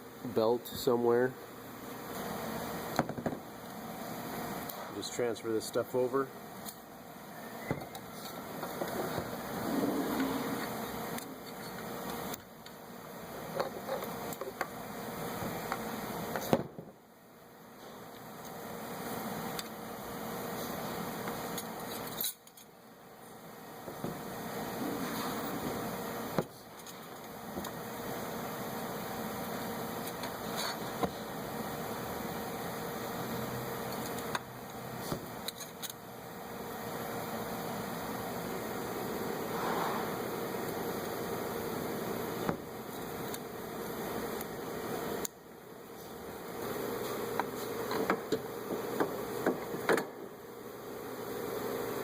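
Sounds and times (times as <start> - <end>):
steady background hiss: 0.0 - 52.0
steady background hum: 0.0 - 52.0.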